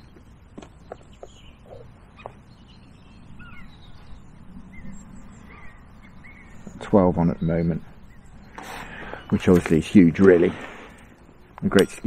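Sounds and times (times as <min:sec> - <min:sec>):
faint birdsong chirps: 0:00.0 - 0:12.0
low outdoor rumble: 0:00.0 - 0:12.0.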